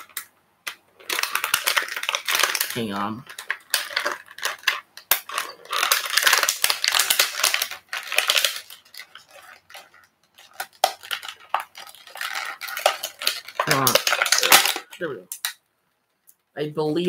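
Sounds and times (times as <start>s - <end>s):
toy packaging crinkling: 0.0s - 15.6s.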